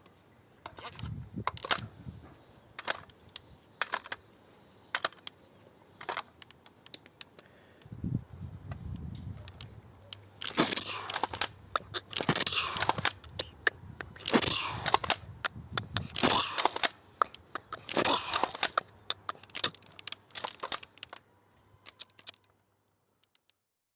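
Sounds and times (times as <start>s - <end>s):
plastic scraping and clicking: 0.6s - 7.5s, 8.6s - 21.2s, 21.8s - 22.6s.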